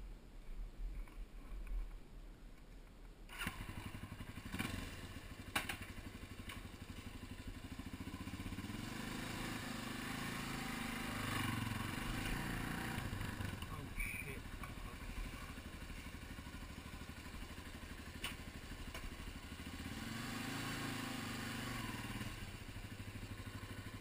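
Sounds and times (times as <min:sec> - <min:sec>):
motorcycle engine starting and running: 0:03.3 - 0:24.0.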